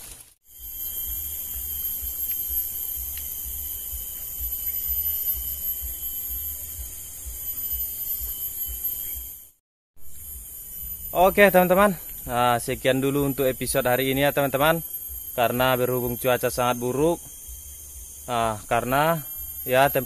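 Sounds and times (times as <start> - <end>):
high-pitched insect drone: 0.4 - 20.0.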